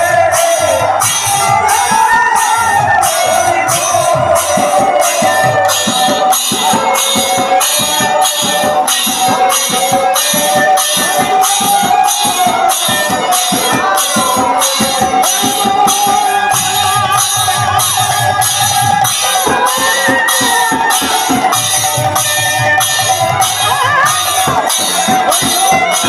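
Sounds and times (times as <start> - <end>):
hand cymbals: 0.0 - 26.0
khol drums: 0.0 - 26.0
sustained harmonium melody: 0.0 - 26.0.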